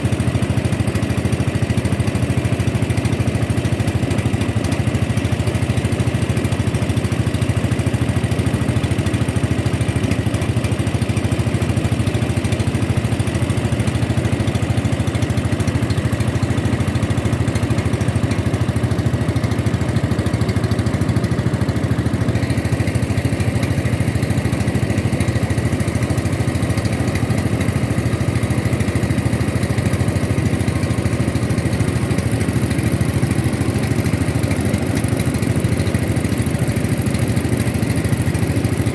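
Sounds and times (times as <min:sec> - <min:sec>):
small boat engine running: 0:00.0 - 0:38.9.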